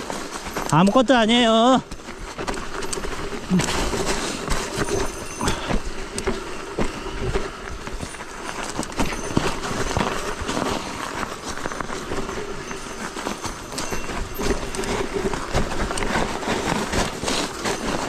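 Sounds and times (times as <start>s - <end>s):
bike knocking and rattling: 0.0s - 18.0s
tyre and wind rush: 0.0s - 18.0s.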